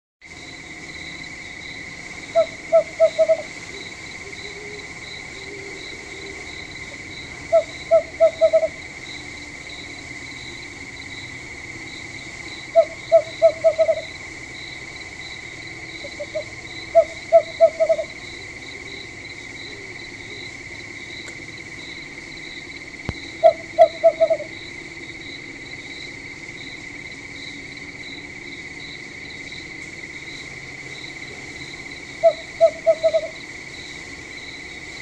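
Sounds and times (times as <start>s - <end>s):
crickets droning: 0.2s - 35.0s
night bird calling: 0.4s - 35.0s.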